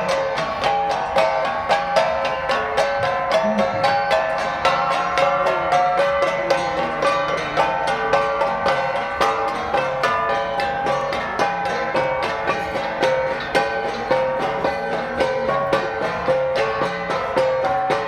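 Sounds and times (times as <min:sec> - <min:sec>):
bronze gongs struck rhythmically: 0:00.0 - 0:18.0.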